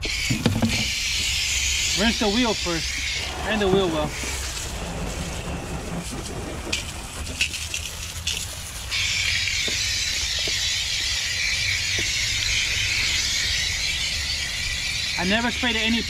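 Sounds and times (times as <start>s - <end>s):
hose water spraying: 0.0s - 16.0s.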